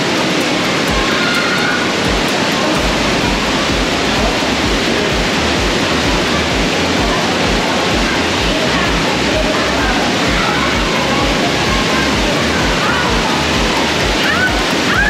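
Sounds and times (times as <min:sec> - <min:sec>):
waterfall rushing: 0:00.0 - 0:15.0
low thumps: 0:01.9 - 0:15.0.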